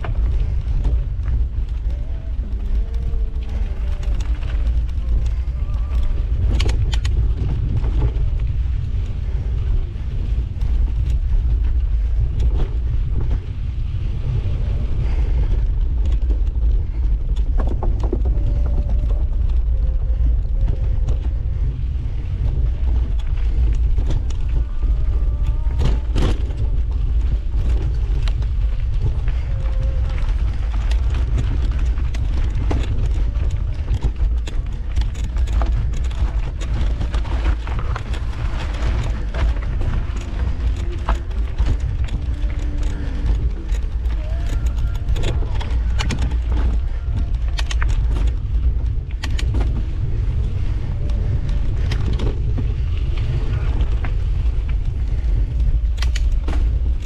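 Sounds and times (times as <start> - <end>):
bike rattling on trail: 0.0 - 57.0
wind rumbling over microphone: 0.0 - 57.0.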